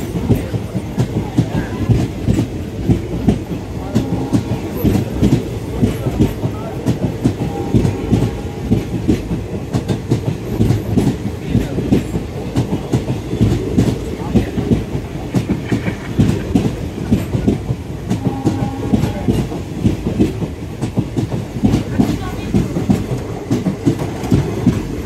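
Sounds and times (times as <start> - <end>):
train low rumble: 0.0 - 25.0
train wheels clacking: 0.0 - 25.0.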